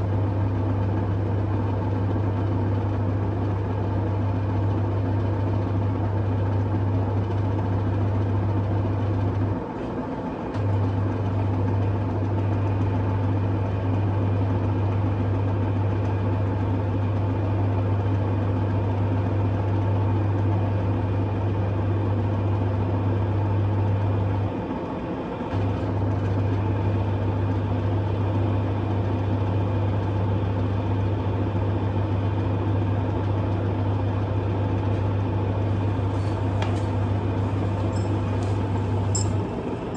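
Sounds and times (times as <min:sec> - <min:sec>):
washing machine drain pump humming: 0:00.0 - 0:39.9.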